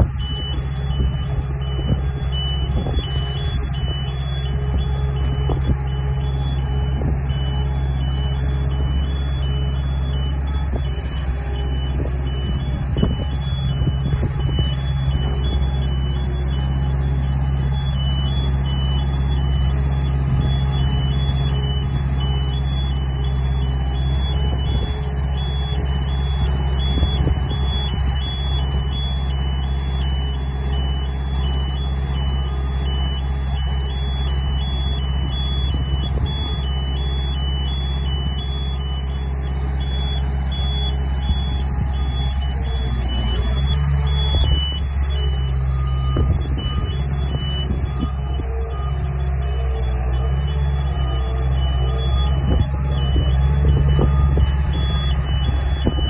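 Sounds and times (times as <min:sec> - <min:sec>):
boom lift engine running: 0:00.0 - 0:56.0
motion alarm beeping: 0:00.0 - 0:56.0.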